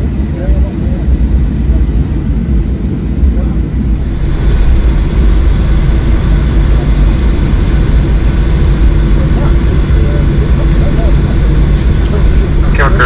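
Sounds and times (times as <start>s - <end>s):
faint steady whine: 0.0s - 13.0s
jet engines low rumble: 0.0s - 13.0s.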